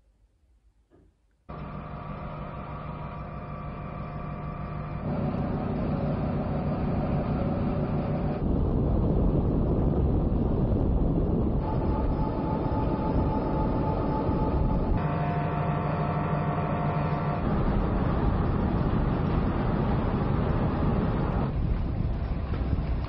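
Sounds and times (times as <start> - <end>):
ship machinery low rumbling drone: 1.5 - 23.0.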